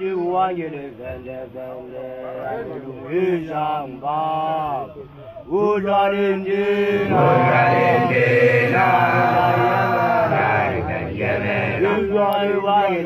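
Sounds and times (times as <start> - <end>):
group chanting: 1.1 - 13.0.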